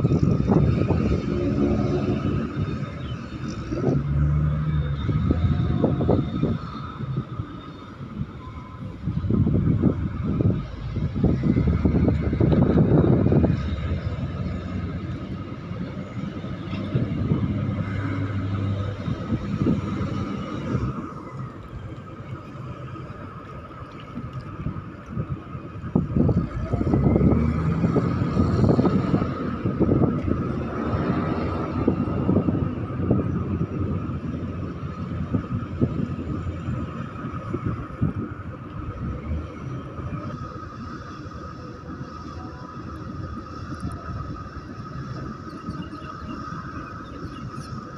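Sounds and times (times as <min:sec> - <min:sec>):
ship engine hum with whine: 0:00.0 - 0:47.9
wind buffeting microphone: 0:00.0 - 0:47.9.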